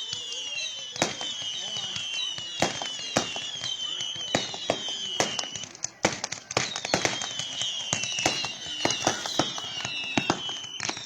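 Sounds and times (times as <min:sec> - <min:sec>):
fireworks bangs: 0:00.0 - 0:11.0
fireworks whistling: 0:00.0 - 0:11.0.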